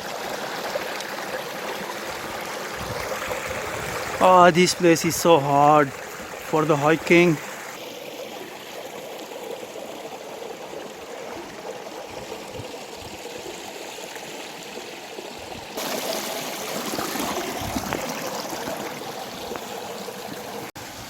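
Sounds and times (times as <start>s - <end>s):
stream flowing over rocks: 0.0s - 21.0s.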